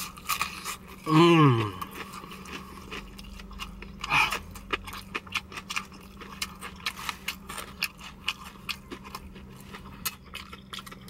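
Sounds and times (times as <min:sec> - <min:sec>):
chewing with wet mouth smacks: 0:00.0 - 0:11.0.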